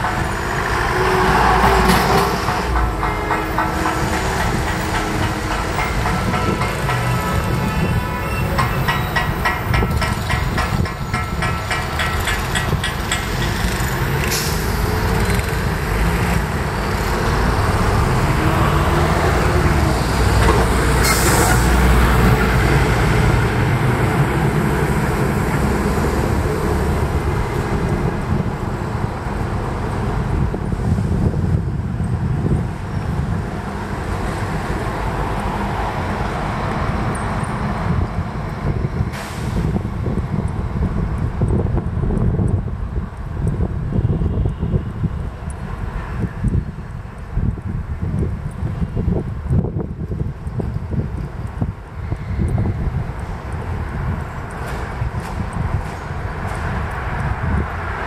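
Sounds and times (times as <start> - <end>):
city street traffic: 0.0 - 58.0
heavy vehicle engine rumble: 0.0 - 58.0.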